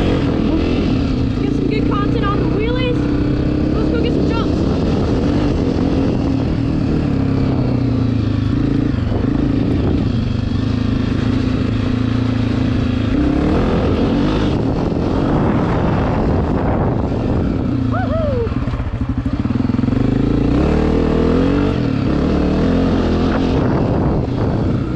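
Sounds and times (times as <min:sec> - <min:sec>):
dirt bike engine running: 0:00.0 - 0:24.9.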